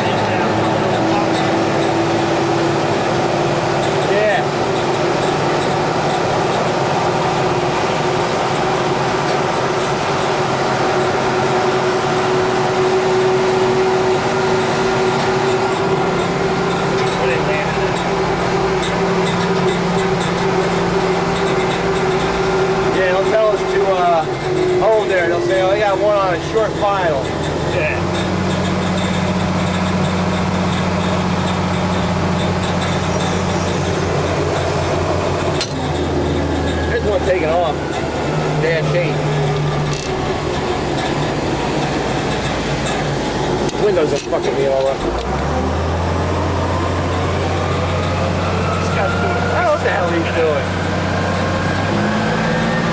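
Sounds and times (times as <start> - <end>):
jet turbine drone: 0.0 - 52.9.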